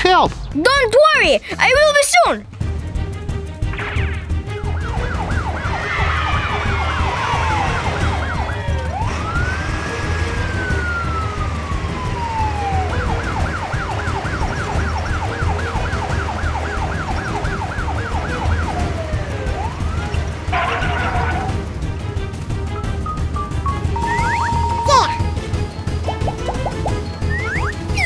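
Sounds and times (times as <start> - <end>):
emergency vehicle siren: 4.6 - 28.0.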